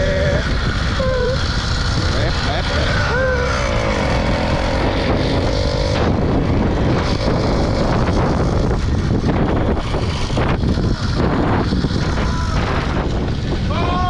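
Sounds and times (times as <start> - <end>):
motorbike engine running: 0.0 - 13.7
wind rushing over microphone: 0.0 - 14.0.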